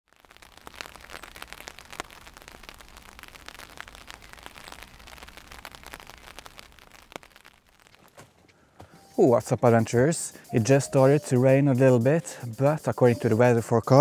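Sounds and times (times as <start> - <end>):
light rain drops ticking: 0.1 - 14.0.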